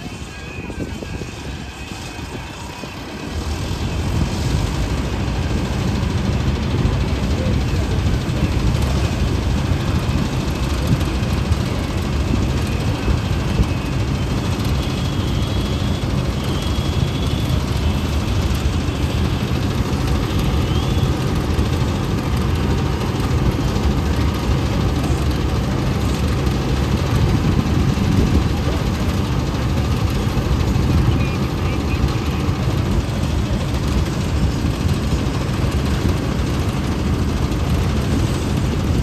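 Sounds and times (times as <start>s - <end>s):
faint steady whine: 0.0s - 39.0s
harvester engine rumbling: 0.0s - 39.0s.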